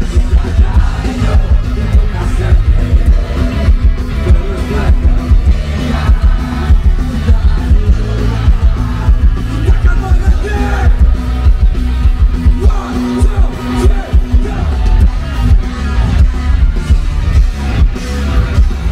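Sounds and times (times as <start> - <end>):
live rock band playing: 0.0 - 18.9.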